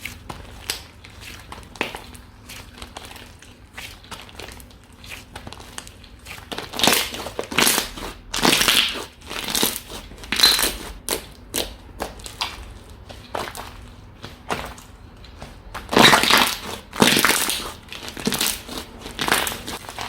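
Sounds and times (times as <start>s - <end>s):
slime crunching and crackling: 0.0s - 20.0s.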